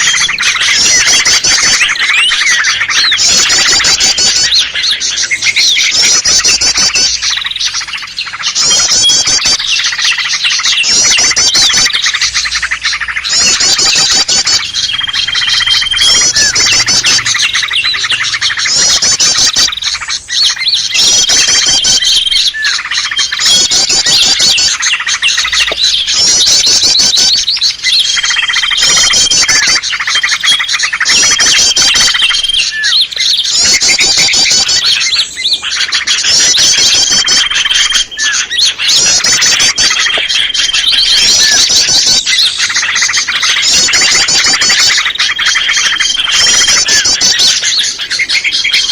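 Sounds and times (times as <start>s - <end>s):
songbirds chirping and trilling: 0.0s - 48.9s.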